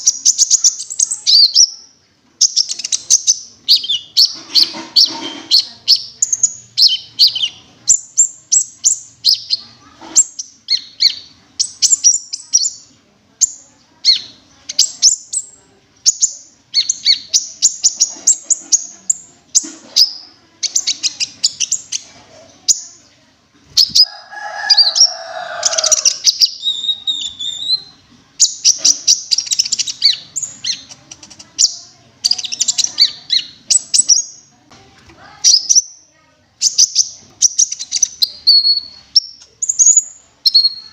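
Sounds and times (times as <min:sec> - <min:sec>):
bird chirping song: 0:00.0 - 0:23.1, 0:23.8 - 0:34.6, 0:35.4 - 0:40.9.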